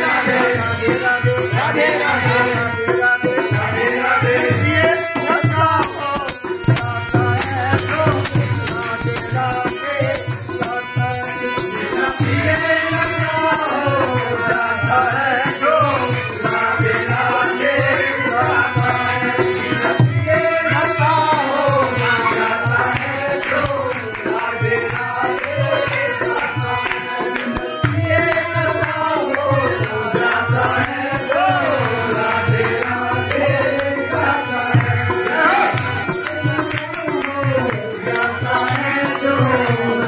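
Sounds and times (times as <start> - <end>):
man and group singing: 0.0 - 40.0.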